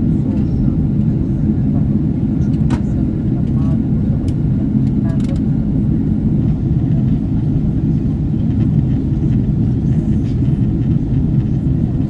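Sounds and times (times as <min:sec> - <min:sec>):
airplane engines rumbling: 0:00.0 - 0:12.0
airflow over fuselage: 0:00.2 - 0:12.0.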